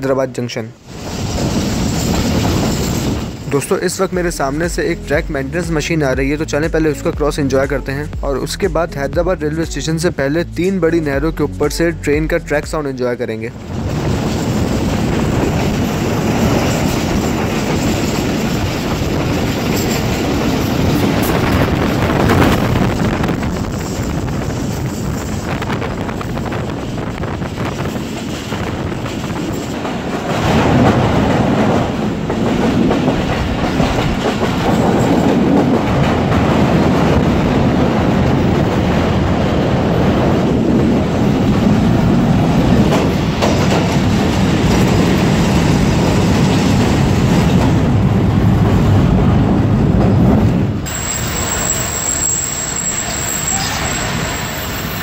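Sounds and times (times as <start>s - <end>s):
train wheels rumbling on rails: 0.8s - 12.9s, 13.5s - 55.0s
clickety-clack of rail joints: 0.9s - 4.2s, 13.6s - 55.0s.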